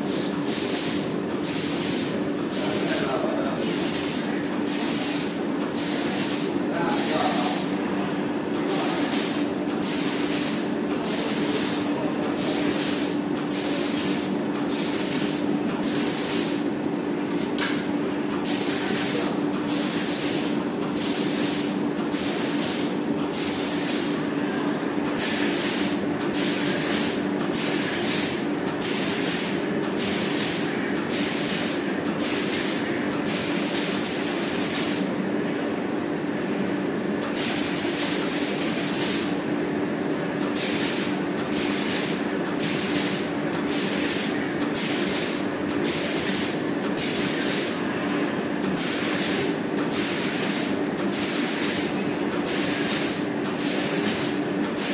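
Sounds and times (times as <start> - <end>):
spray gun hissing bursts: 0.0 - 7.7, 8.7 - 16.7, 18.4 - 24.3, 25.2 - 35.1, 37.3 - 39.5, 40.5 - 47.8, 48.8 - 54.9.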